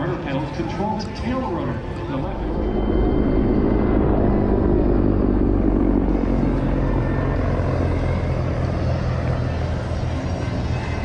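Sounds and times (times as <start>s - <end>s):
helicopter rotor and turbine drone: 0.0s - 11.0s.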